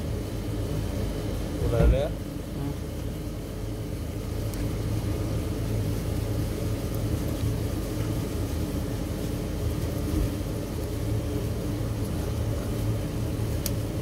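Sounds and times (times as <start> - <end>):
low rumbling hum: 0.0 - 14.0.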